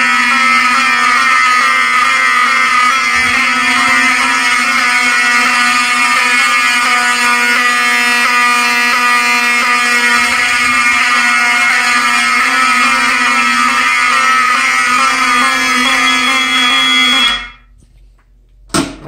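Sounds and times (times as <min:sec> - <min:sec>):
fire alarm horns buzzing: 0:00.0 - 0:17.7.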